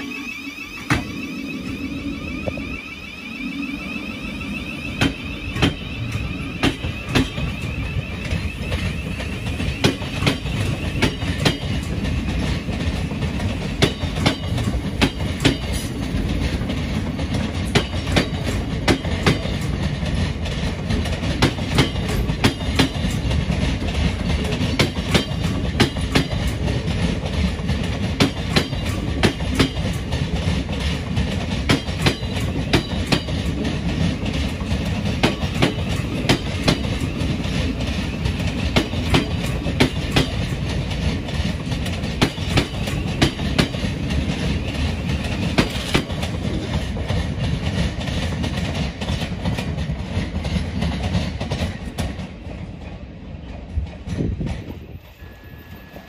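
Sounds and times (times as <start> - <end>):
electric train rumbling past: 0.0 - 56.0
wheels clicking over rail joints: 1.9 - 55.1.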